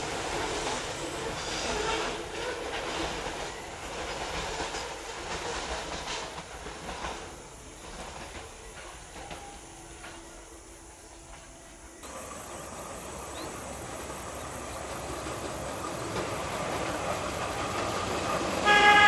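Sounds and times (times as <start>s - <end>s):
train wheels clacking over rail joints: 0.0s - 19.0s.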